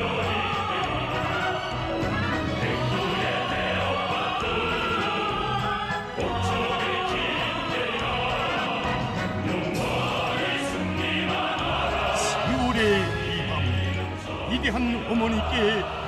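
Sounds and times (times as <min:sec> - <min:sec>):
orchestral accompaniment: 0:00.0 - 0:16.0.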